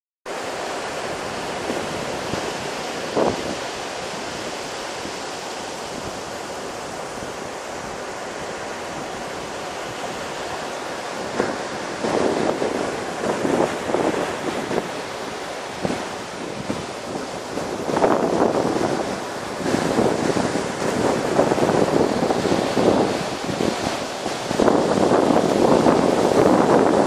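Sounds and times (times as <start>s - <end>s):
waves breaking on beach: 0.3s - 27.0s
wind buffeting microphone: 0.5s - 27.0s.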